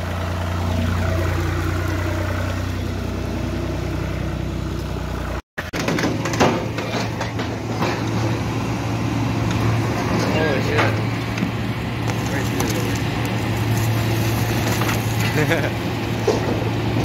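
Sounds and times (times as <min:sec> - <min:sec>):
car engine idling: 0:00.0 - 0:17.0
engine hum with knocks and clatter: 0:00.0 - 0:17.0.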